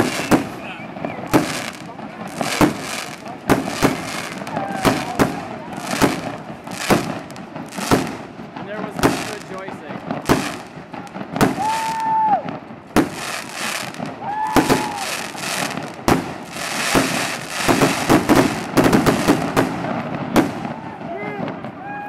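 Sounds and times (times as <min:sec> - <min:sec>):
firework whistling: 0:00.0 - 0:22.0
fireworks bangs: 0:00.0 - 0:22.0
fireworks crackling: 0:00.0 - 0:22.0.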